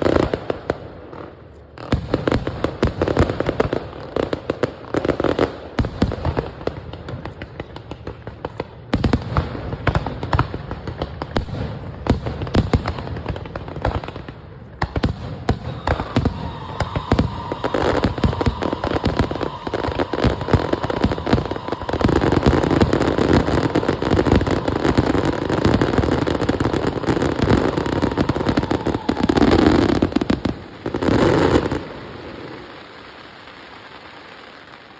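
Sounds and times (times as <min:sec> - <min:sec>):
fireworks crackling and banging: 0:00.0 - 0:34.9.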